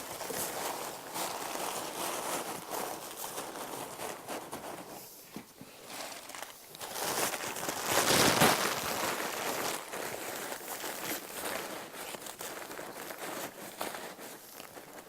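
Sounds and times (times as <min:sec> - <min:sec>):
packing paper rustling and crinkling: 0:00.0 - 0:15.0.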